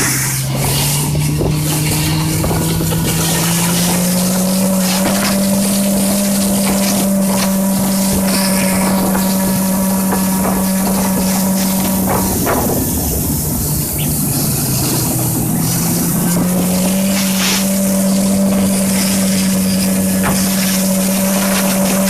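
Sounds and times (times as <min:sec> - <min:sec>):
small engine running at high revs: 0:00.0 - 0:22.0
wind noise on microphone: 0:00.0 - 0:22.0.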